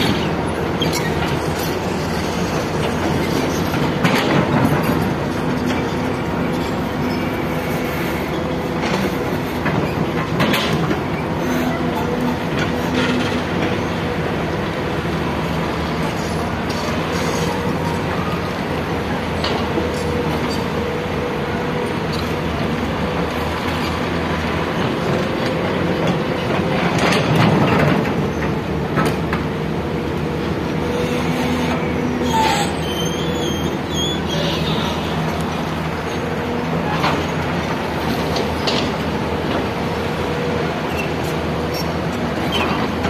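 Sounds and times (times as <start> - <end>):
excavator engine running: 0.0 - 43.0.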